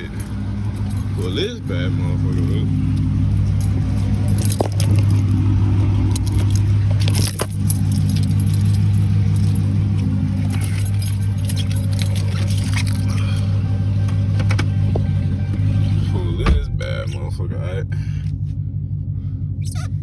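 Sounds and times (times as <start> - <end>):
keys jingling: 0.0 - 16.7
car engine running: 0.0 - 20.0.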